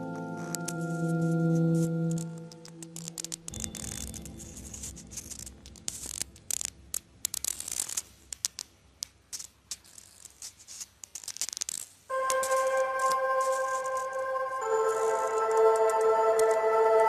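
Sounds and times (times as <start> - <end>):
dry flowers rustling and crackling: 0.2 - 16.5.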